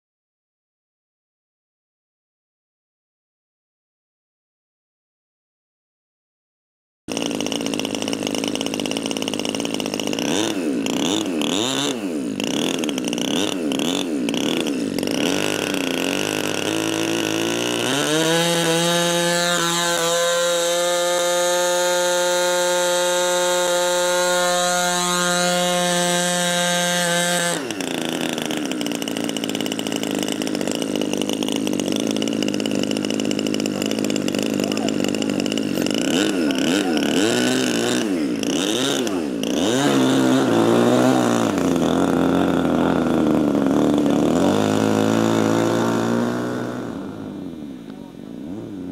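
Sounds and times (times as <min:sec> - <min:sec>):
model airplane engine revving: 0:07.1 - 0:48.9.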